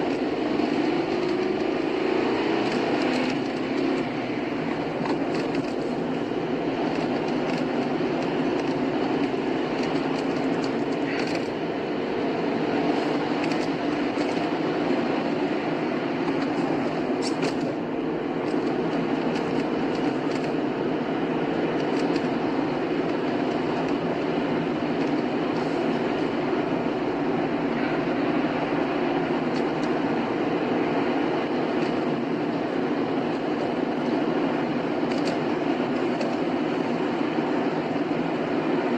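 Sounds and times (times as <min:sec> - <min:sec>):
car tyre and road noise: 0:00.0 - 0:38.9.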